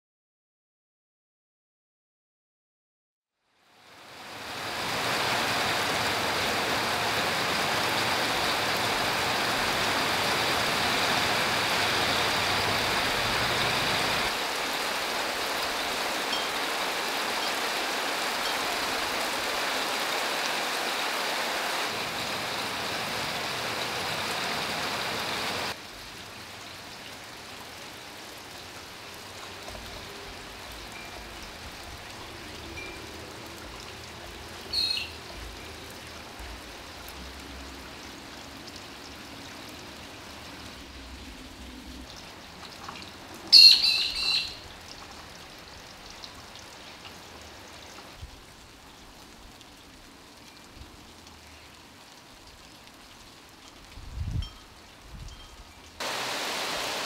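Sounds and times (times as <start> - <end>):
steady rain falling: 3.4 - 57.0.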